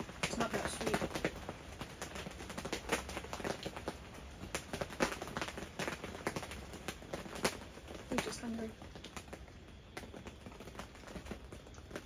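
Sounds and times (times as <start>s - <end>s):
faint steady hiss: 0.0s - 12.0s
raindrops tapping on tent: 0.0s - 12.0s.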